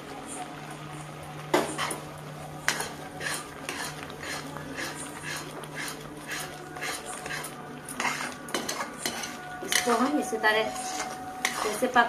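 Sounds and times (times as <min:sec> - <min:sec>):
metal ladle scraping pan: 0:01.6 - 0:12.0.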